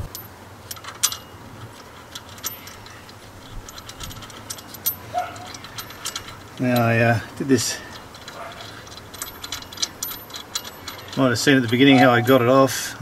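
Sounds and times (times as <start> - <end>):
light metallic clicks: 0.0 - 12.5.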